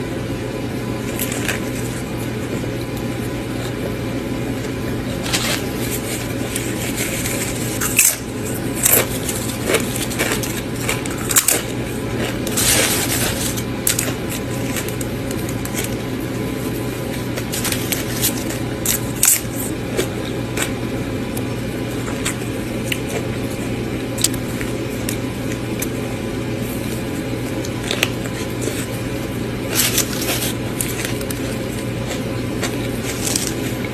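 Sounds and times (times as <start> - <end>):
steady low hum: 0.0 - 33.9
crunchy chewing and bites: 0.8 - 33.9.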